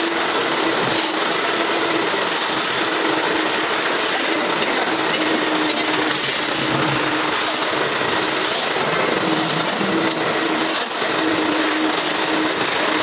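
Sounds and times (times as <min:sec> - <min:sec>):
vacuum cleaner sucking water: 0:00.0 - 0:13.0.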